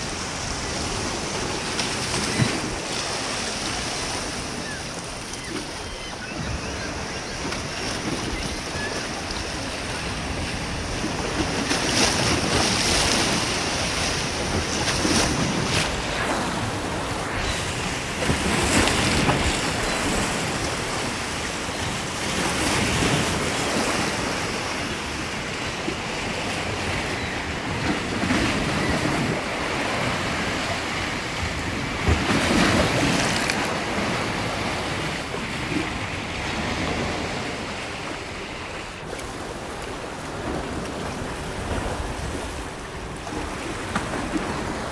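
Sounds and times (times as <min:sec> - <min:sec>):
small waves washing in: 0:00.0 - 0:44.9.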